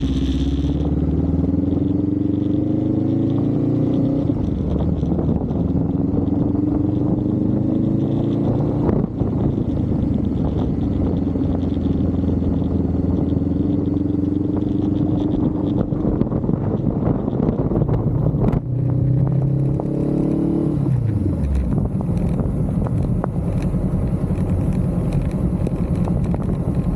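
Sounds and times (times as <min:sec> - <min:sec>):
vehicle engine accelerating: 0:00.0 - 0:26.9.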